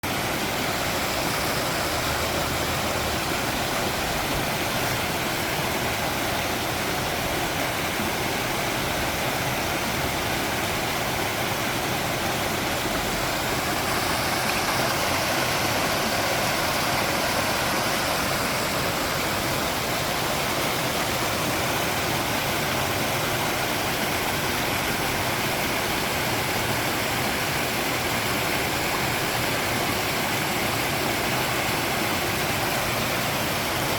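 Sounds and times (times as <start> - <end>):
water rushing steadily: 0.0 - 33.9.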